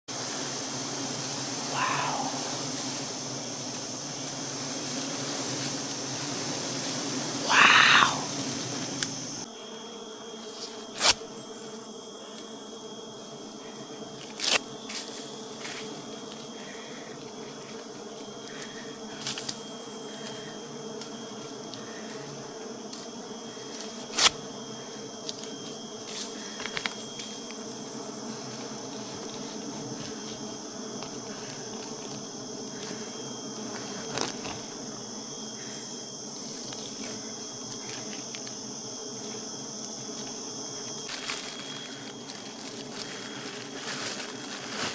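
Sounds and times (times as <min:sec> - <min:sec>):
honeybees buzzing: 0:00.1 - 0:44.9.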